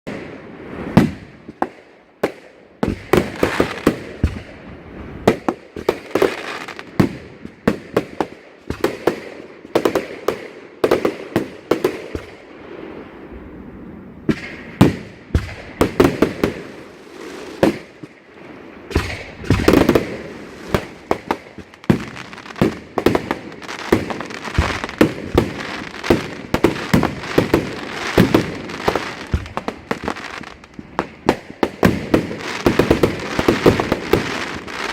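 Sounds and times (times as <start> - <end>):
fireworks bangs and crackles: 0.1 - 34.9.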